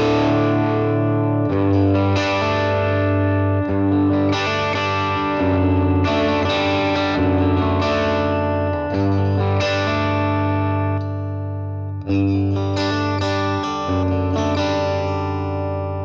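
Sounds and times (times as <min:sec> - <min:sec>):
electric guitar strumming chords: 0:00.0 - 0:16.0.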